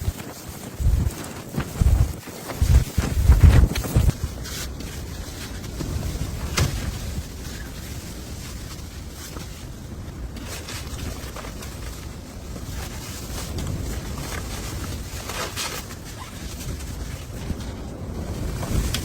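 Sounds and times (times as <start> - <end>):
blizzard wind on microphone: 0.0 - 19.0.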